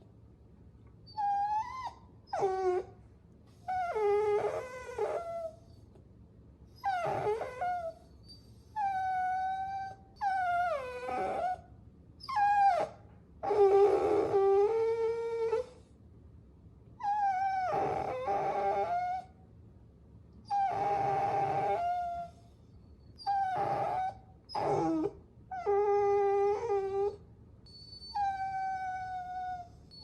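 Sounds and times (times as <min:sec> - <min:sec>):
puppy whining: 0:01.0 - 0:06.0, 0:06.7 - 0:15.9, 0:17.0 - 0:19.4, 0:20.4 - 0:30.0.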